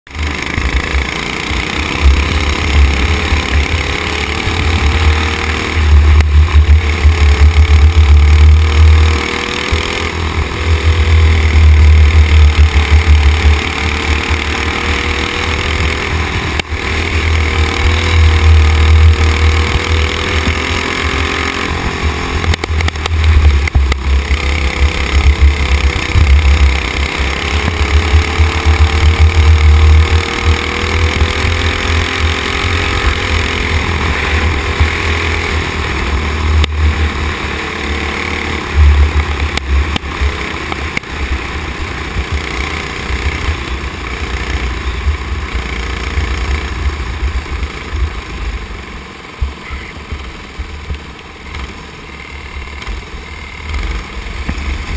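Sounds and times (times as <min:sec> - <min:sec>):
kart engine revving: 0:00.1 - 0:54.9.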